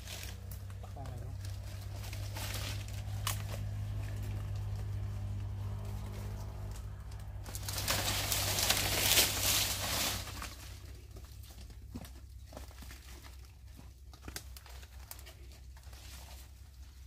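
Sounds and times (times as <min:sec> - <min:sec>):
dry palm fronds rustling: 0:00.0 - 0:17.0
steady low hum: 0:00.0 - 0:17.0.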